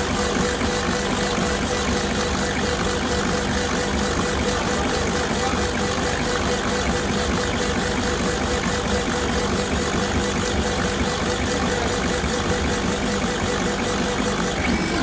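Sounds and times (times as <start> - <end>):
laser engraving machine humming: 0.0 - 15.0.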